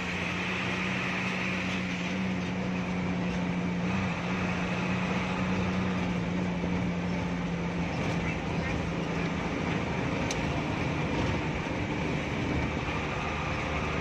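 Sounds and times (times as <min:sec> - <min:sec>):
diesel bus engine cruising: 0:00.0 - 0:14.0
road and tyre noise: 0:00.0 - 0:14.0.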